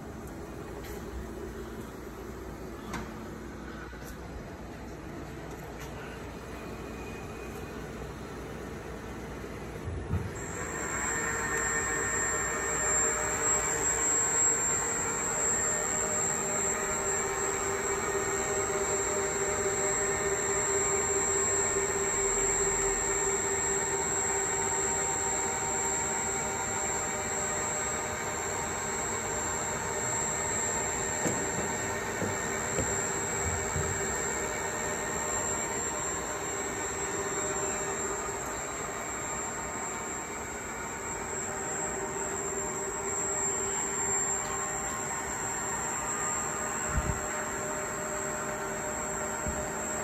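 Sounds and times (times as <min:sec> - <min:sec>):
high-pitched machine whine: 0:00.0 - 0:50.0
milling machine hum: 0:00.0 - 0:50.0.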